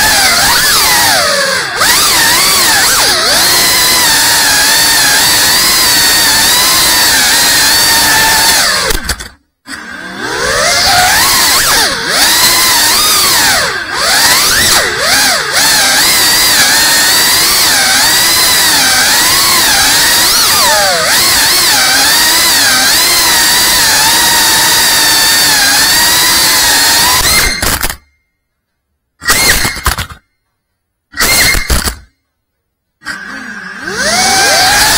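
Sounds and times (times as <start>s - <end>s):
quadcopter motors whining: 0.0s - 28.0s, 29.2s - 30.2s, 31.2s - 32.0s, 33.0s - 34.9s.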